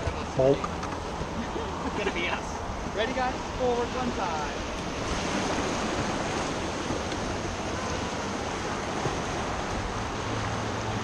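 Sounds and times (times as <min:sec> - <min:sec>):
whitewater river rushing: 0:00.0 - 0:11.0.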